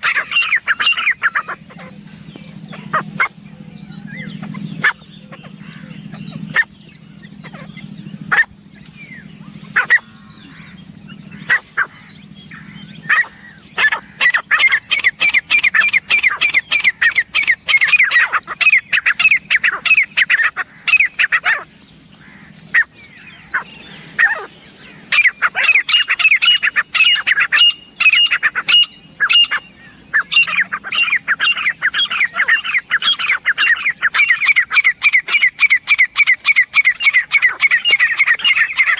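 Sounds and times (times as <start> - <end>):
francolin calling: 0.0 - 38.9.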